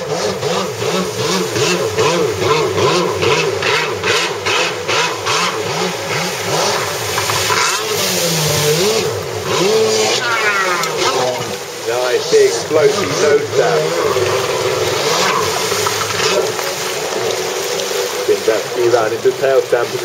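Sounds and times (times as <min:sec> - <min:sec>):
jet ski engine revving: 0:00.0 - 0:20.0.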